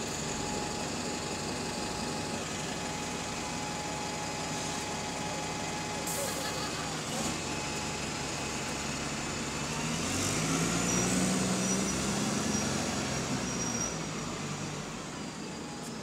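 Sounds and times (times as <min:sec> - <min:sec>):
bus diesel engine pulling away: 0:00.0 - 0:16.0
street traffic: 0:00.0 - 0:16.0.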